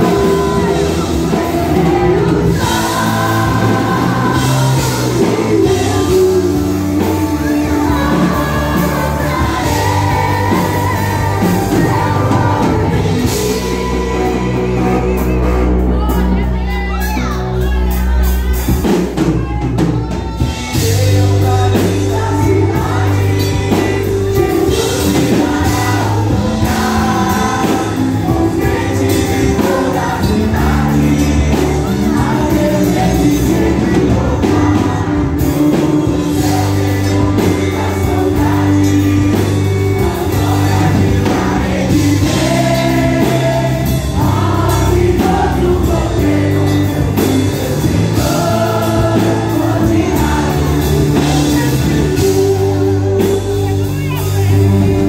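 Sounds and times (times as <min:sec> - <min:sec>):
bass line: 0:00.0 - 0:55.0
drums: 0:00.0 - 0:55.0
youth choir singing: 0:00.0 - 0:55.0.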